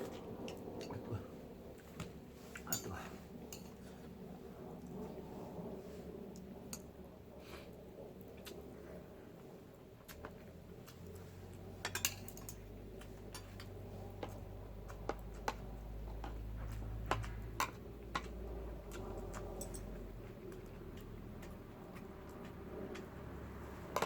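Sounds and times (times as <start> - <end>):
low steady rumble: 0.0 - 24.0
wood fire crackling and popping: 0.0 - 24.0.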